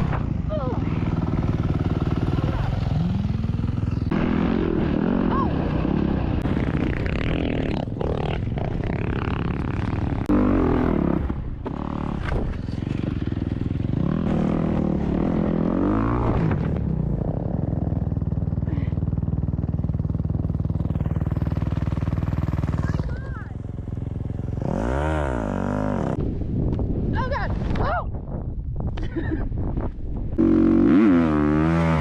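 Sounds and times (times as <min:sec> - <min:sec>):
dirt bike engines revving: 0:00.0 - 0:16.9, 0:18.1 - 0:26.2, 0:30.4 - 0:32.0.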